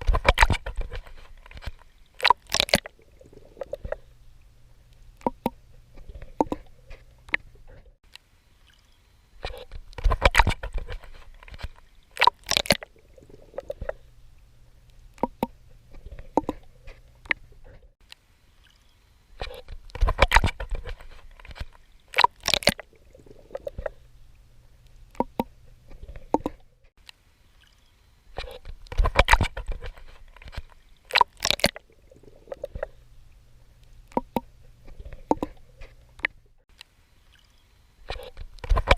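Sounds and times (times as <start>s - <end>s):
water drips and gurgles: 0.0s - 38.9s.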